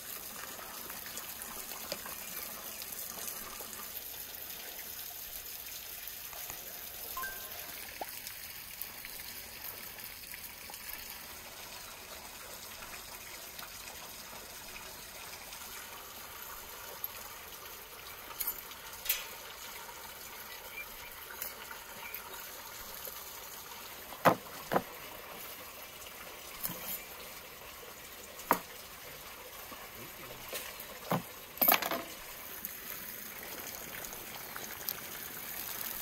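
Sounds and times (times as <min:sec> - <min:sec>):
running water trickle: 0:00.0 - 0:36.0.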